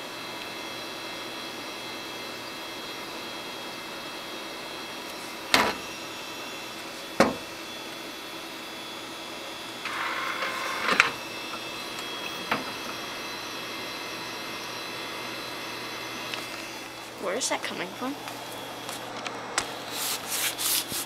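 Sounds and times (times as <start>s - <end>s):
computer high-pitched whine: 0.0s - 20.0s.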